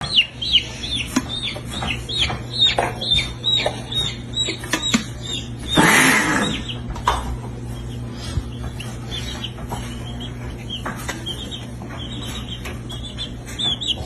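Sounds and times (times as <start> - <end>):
chick peeping: 0.0 - 14.0.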